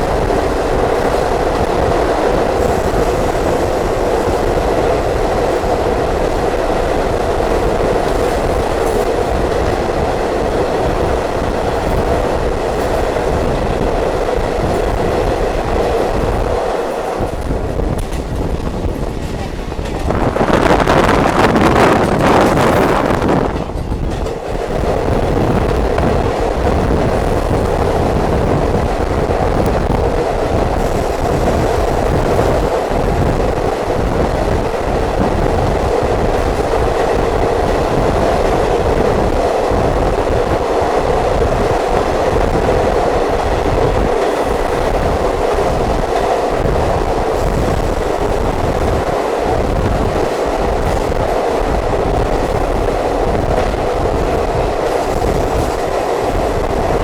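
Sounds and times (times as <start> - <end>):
train rumbling: 0.0 - 57.0
wheels rattling on track: 0.0 - 57.0.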